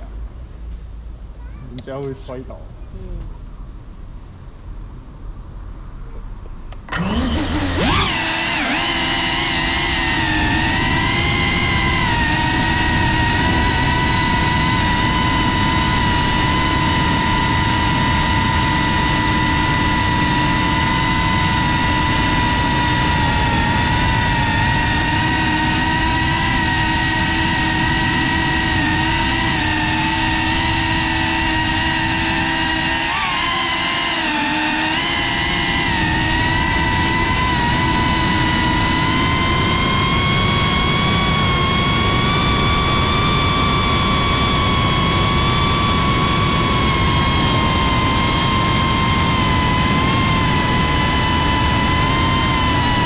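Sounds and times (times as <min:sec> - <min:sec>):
quadcopter motors whining: 0:06.7 - 0:53.0.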